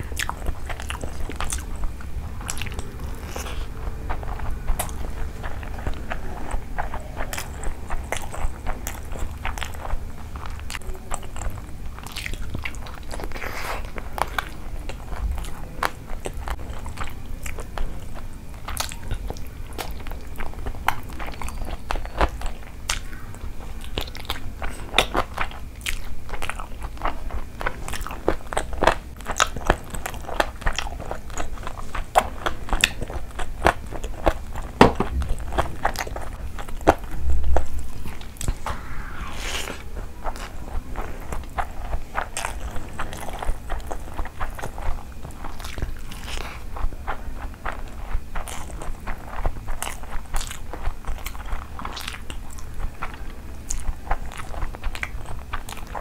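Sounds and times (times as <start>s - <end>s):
chewing with mouth clicks: 0.0s - 38.7s, 39.8s - 56.0s.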